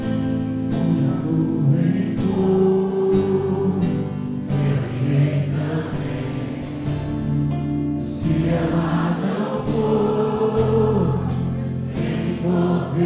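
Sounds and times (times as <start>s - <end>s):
choir-like voices: 0.0s - 13.0s
sustained chords: 0.0s - 13.0s.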